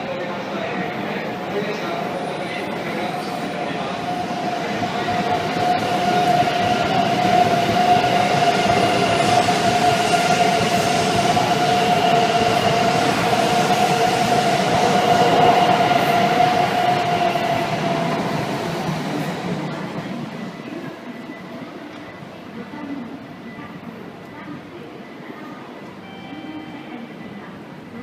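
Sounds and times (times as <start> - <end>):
train moving with steady whine: 0.0 - 28.0.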